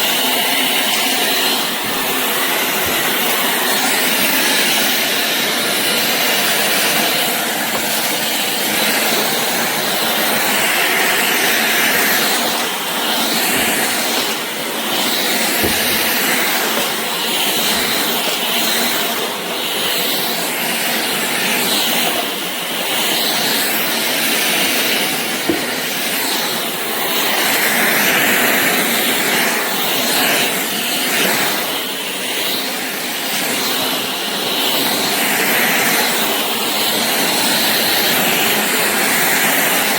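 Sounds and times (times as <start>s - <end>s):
stick vacuum running: 0.0s - 39.9s.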